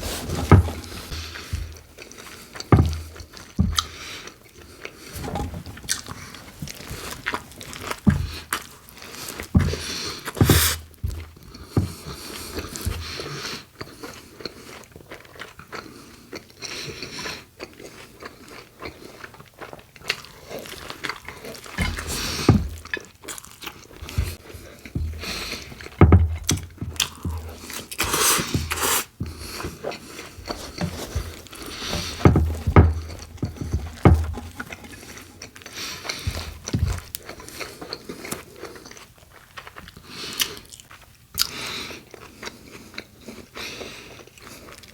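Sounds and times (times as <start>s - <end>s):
wet chewing: 0.0s - 44.9s
sandwich crunching: 5.8s - 13.2s, 13.8s - 44.9s.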